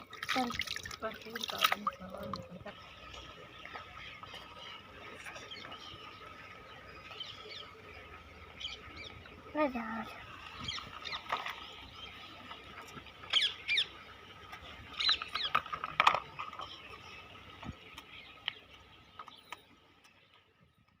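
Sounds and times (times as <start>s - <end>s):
faint steady hum: 0.0s - 21.0s
small birds chirping: 0.0s - 21.0s.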